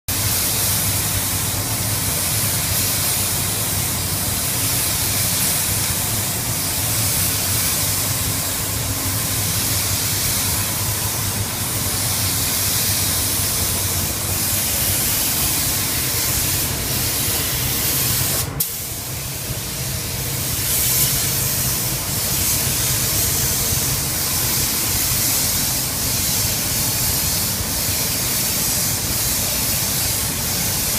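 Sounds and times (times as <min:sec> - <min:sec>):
spray gun hissing: 0:00.1 - 0:30.9.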